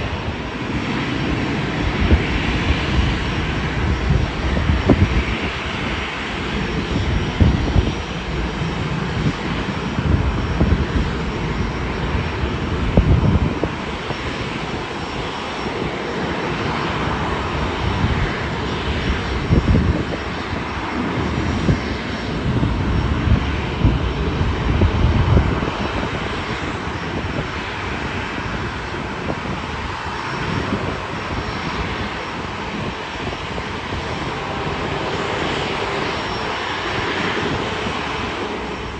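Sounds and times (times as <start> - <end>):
airliner engines running: 0.0 - 38.9.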